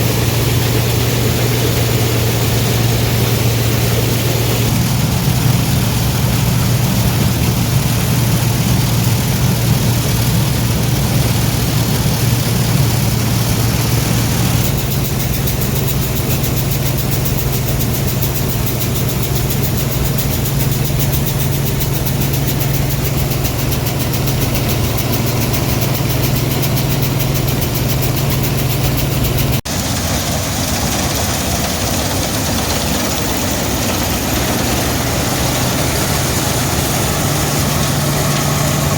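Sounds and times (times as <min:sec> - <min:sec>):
combine engine hum: 0:00.0 - 0:38.9
working machinery noise: 0:00.0 - 0:38.9.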